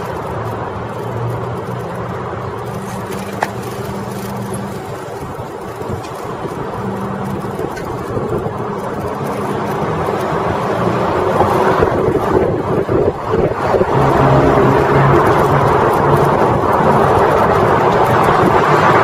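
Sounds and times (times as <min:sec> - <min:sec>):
low engine-like hum: 0:00.0 - 0:19.0
street traffic: 0:00.0 - 0:19.0.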